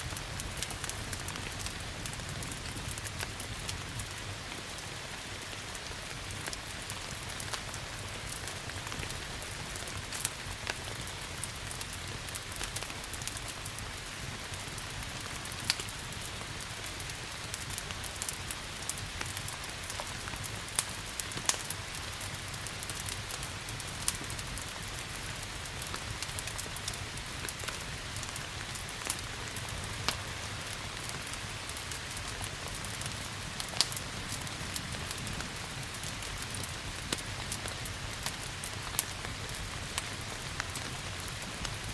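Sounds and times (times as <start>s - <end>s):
rain hiss: 0.0s - 41.9s
wood fire crackling: 0.0s - 41.9s.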